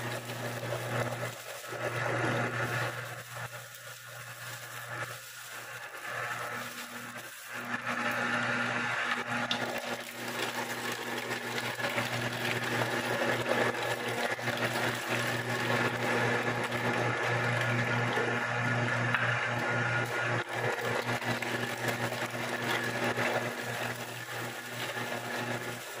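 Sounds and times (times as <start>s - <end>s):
electric meat grinder humming: 0.0s - 26.0s.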